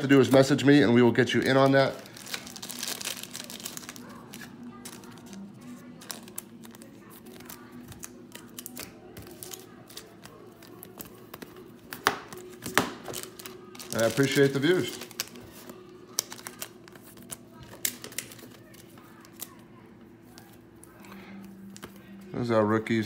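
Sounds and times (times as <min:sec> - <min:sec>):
plastic wrappers crinkling: 0:00.0 - 0:22.2.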